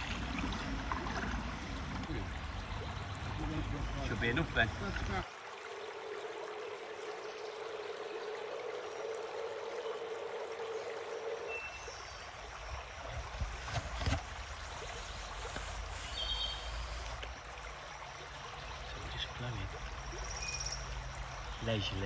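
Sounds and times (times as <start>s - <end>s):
river water running: 0.0s - 22.0s.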